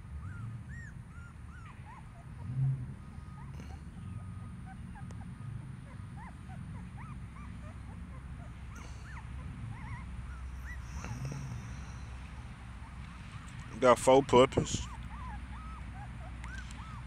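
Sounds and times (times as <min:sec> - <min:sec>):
puppies whimpering and squeaking: 0:00.0 - 0:13.5, 0:14.6 - 0:17.0
low steady rumble: 0:00.0 - 0:17.0.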